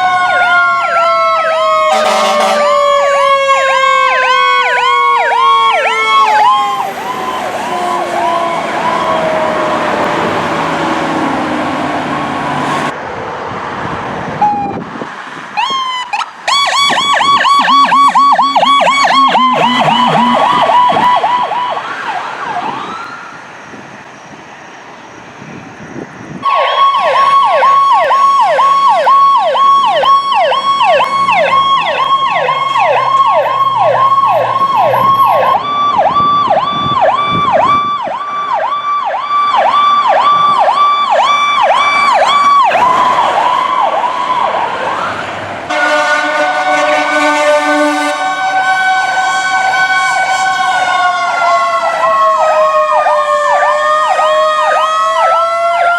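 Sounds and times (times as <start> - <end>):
emergency siren fast whoop: 0.0 - 10.5, 15.6 - 23.3, 26.4 - 55.9
road and engine noise: 0.0 - 55.9.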